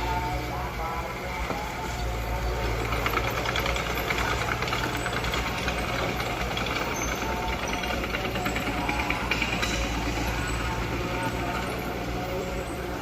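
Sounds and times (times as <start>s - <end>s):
diesel engine running: 0.0s - 13.0s
rapid metallic rattle: 1.1s - 13.0s.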